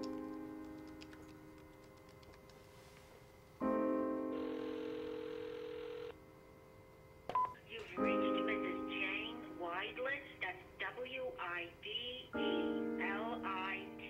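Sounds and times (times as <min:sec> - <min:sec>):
piano chords: 0:00.0 - 0:02.6, 0:03.2 - 0:11.1, 0:11.7 - 0:14.0.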